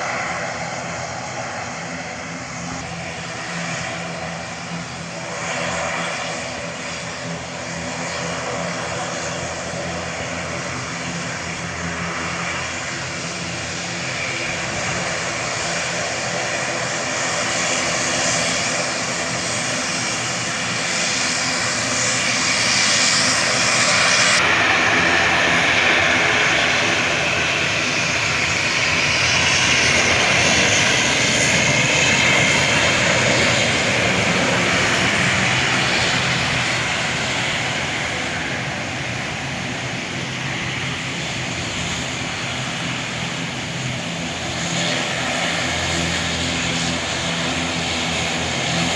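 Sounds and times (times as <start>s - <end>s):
turboprop engines droning: 0.0s - 48.9s.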